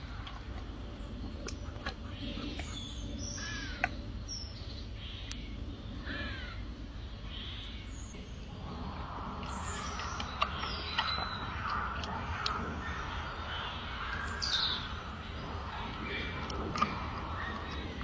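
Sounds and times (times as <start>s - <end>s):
birds cawing and chirping: 0.0s - 18.0s
falling bird calls: 0.0s - 18.0s.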